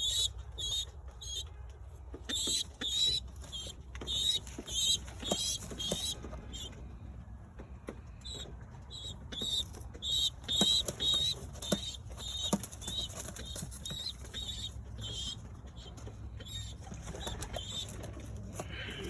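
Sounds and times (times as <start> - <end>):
pigeons chirping: 0.0 - 19.0.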